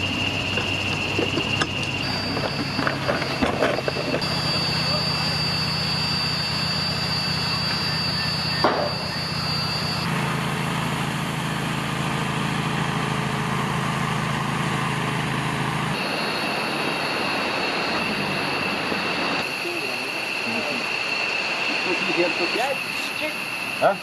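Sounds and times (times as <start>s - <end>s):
bandsaw mill engine hum: 0.0s - 24.0s
high whine: 0.0s - 24.0s.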